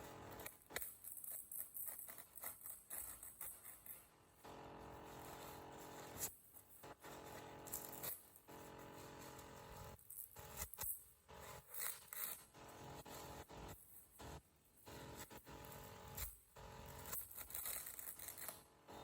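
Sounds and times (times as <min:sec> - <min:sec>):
electronic hum with hiss: 0:00.0 - 0:02.2, 0:03.0 - 0:19.0.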